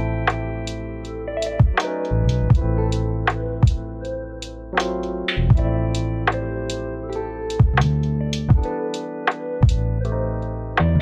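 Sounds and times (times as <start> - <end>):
bass line: 0.0 - 4.2, 5.4 - 8.6, 9.6 - 11.0
keyboard chords: 0.0 - 11.0.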